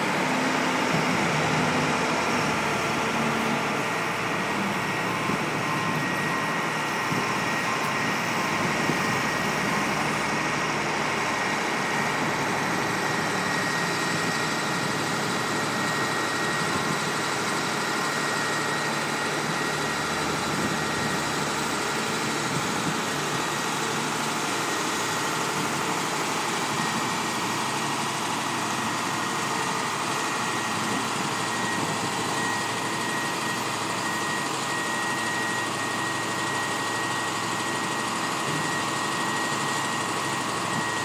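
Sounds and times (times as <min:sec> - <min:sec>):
diesel engine running: 0:00.0 - 0:41.0
steady high whine: 0:00.0 - 0:41.0.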